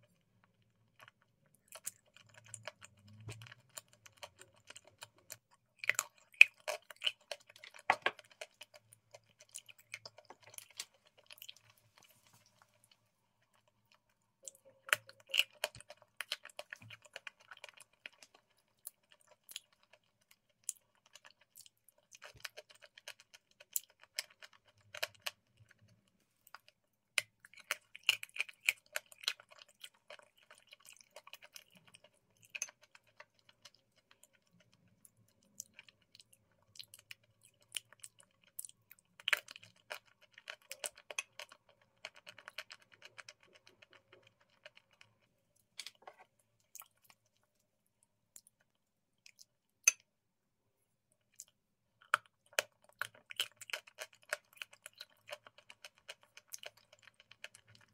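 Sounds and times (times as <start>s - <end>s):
wet crackling and smacking eating: 0.0s - 50.1s, 51.1s - 57.9s.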